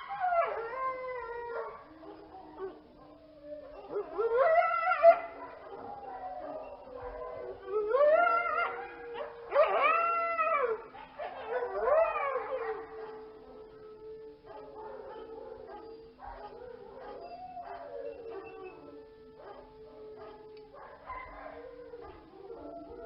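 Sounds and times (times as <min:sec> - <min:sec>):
canines howling: 0:00.0 - 0:23.0.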